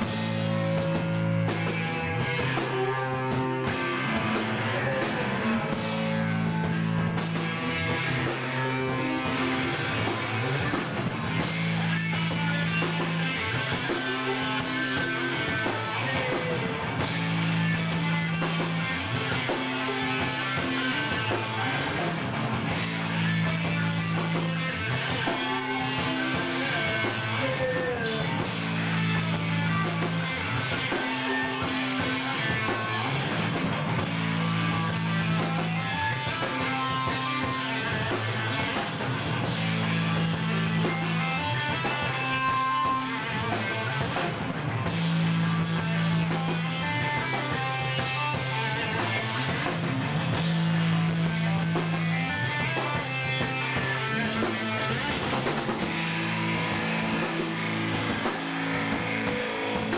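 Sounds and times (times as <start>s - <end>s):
rock band playing heavy riff: 0.0s - 59.9s.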